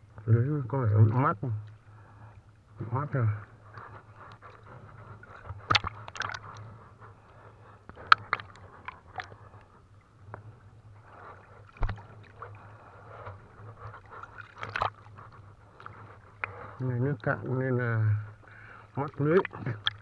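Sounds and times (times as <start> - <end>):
low steady hum: 0.0 - 20.0
water splashing and lapping: 3.4 - 20.0.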